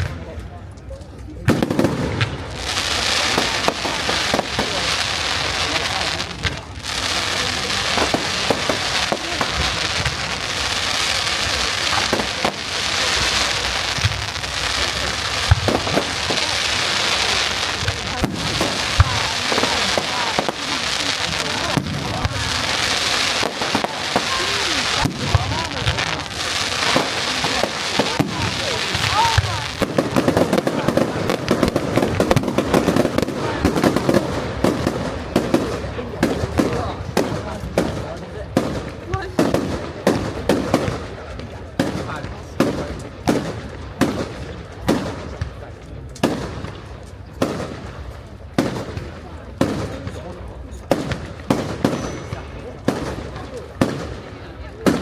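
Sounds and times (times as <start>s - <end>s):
crackling fireworks hiss: 0.0s - 55.0s
firework bangs: 0.0s - 55.0s.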